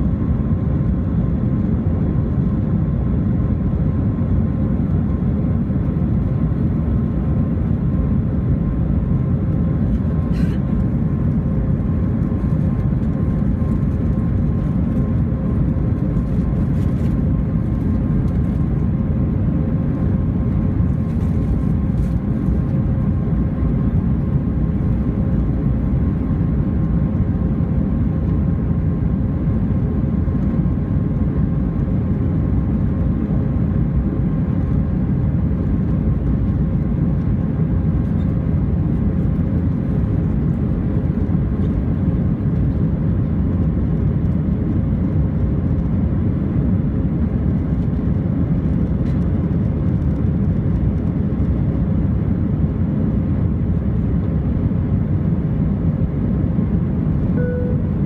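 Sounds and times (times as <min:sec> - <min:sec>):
deep rumble of jet engines: 0:00.0 - 0:58.0
faint steady hum: 0:00.0 - 0:58.0.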